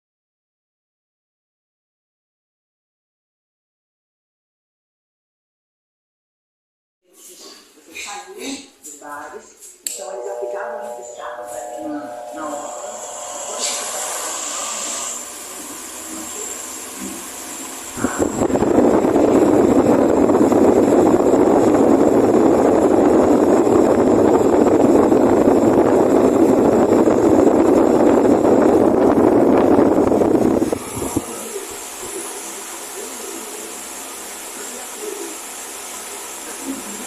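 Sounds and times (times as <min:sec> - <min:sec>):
wall fan running: 0:07.2 - 0:37.0.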